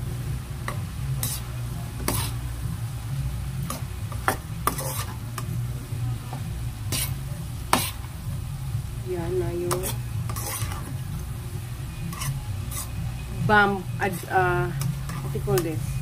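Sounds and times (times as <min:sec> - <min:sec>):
faint sizzle: 0:00.0 - 0:16.0
steady low hum: 0:00.0 - 0:16.0.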